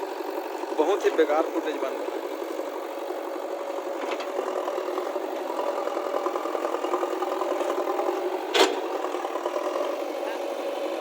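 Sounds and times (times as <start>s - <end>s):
motor humming steadily: 0.0s - 11.0s.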